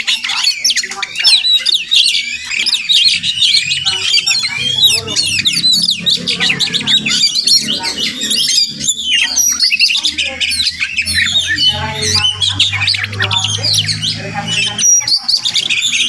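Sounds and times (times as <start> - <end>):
bird singing whistles and chirps: 0.0 - 16.0.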